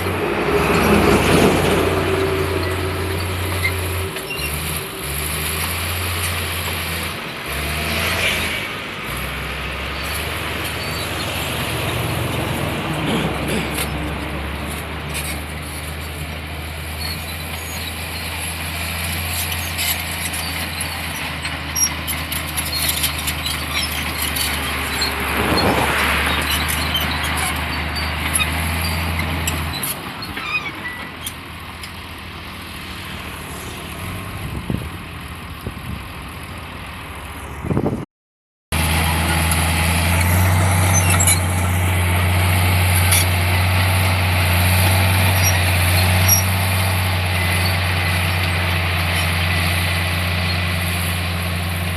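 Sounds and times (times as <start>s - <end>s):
diesel engine running: 0.0s - 38.0s, 38.7s - 51.9s.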